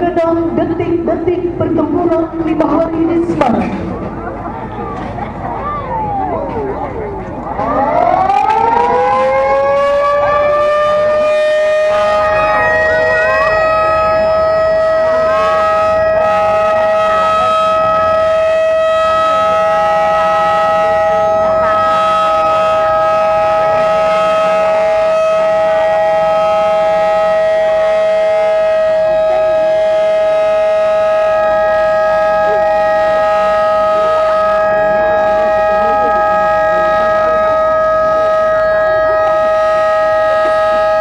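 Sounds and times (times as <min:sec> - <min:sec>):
warning siren steady tone: 0:05.6 - 0:41.0.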